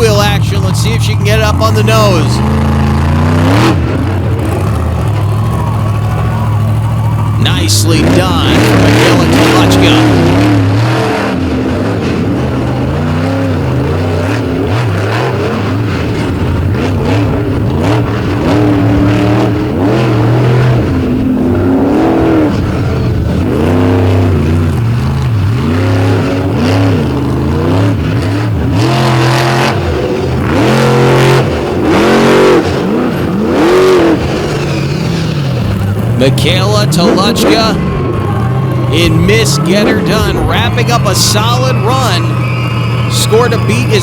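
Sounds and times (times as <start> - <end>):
truck engine revving: 0.0 - 44.0.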